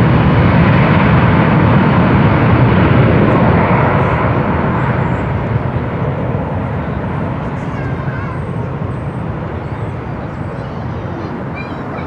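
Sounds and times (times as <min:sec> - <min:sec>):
aircraft engines running: 0:00.0 - 0:12.0.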